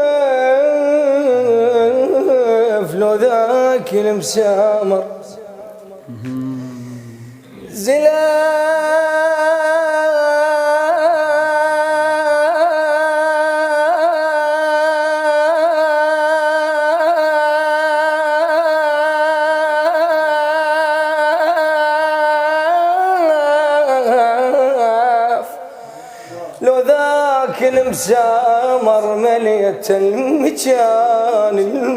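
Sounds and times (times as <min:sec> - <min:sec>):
man chanting unaccompanied: 0:00.0 - 0:25.7, 0:26.3 - 0:31.9.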